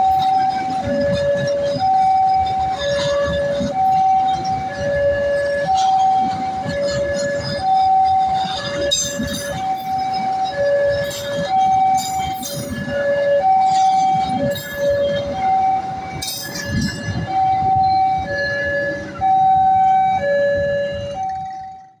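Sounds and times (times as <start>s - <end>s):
high train screeches: 0.0s - 20.2s
train rumbling and clacking: 0.0s - 22.0s
two-tone crossing alarm: 0.0s - 22.0s.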